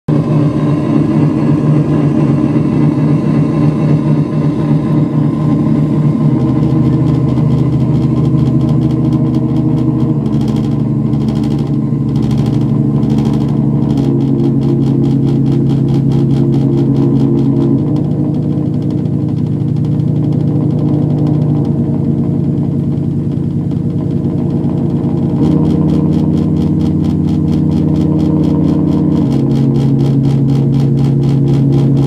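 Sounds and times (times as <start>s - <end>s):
rapid pulsing synth texture: 0.1s - 32.0s
synthesizer drone: 0.1s - 32.0s.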